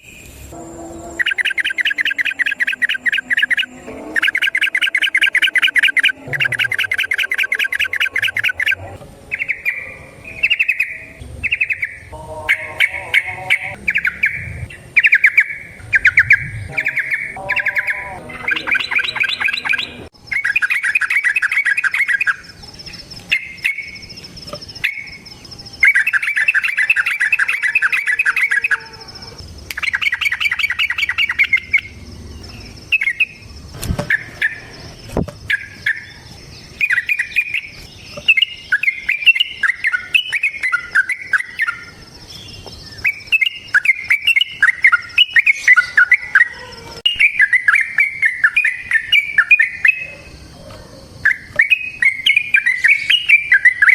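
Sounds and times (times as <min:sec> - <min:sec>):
bulbul singing chattering trills: 0:00.0 - 0:53.9.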